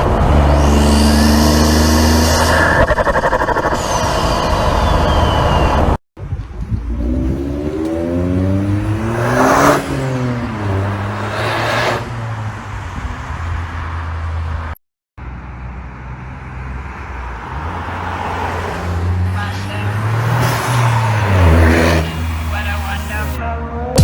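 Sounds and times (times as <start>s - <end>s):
car engine revving: 0.0s - 5.7s, 6.6s - 14.4s, 16.4s - 24.0s.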